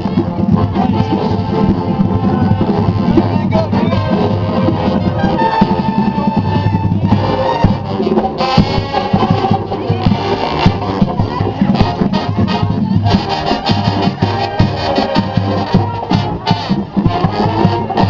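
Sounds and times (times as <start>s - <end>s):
marching band playing: 0.0s - 18.0s.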